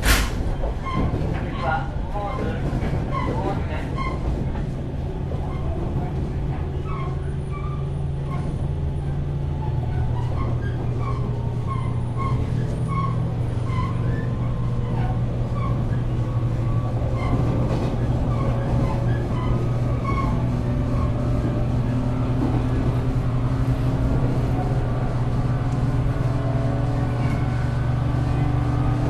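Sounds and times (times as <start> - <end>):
train traction motor hum: 0.0 - 29.0
wheels rumbling on rail: 0.0 - 29.0.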